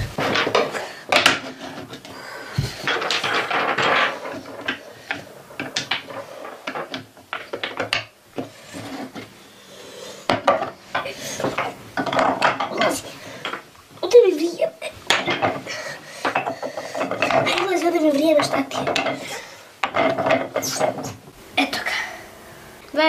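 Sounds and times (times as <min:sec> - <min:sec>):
wooden blocks clacking and scraping: 0:00.0 - 0:22.0.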